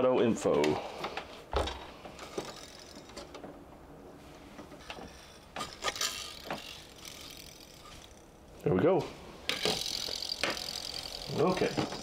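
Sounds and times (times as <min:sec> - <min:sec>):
rustling of parts handled: 0:01.1 - 0:12.0.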